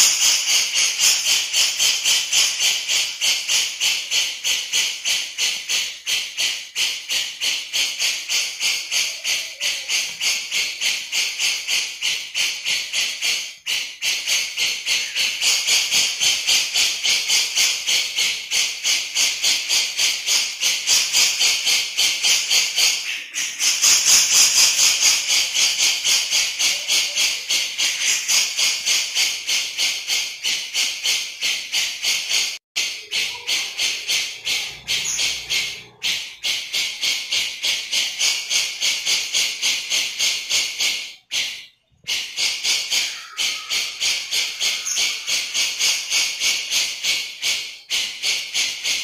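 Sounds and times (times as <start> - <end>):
bird chattering: 0.0 - 49.0.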